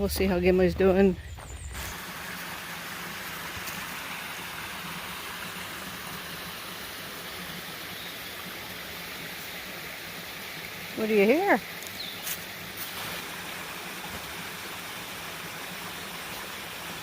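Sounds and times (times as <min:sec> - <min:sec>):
creek water rushing: 0:01.8 - 0:17.0.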